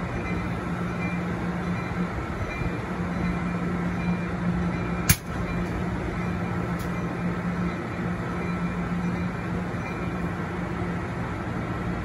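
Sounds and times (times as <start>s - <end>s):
idling train low rumble: 0.0s - 12.0s.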